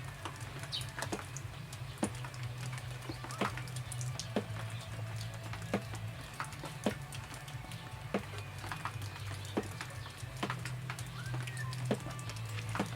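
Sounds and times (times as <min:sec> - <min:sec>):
raindrops ticking: 0:00.0 - 0:12.9.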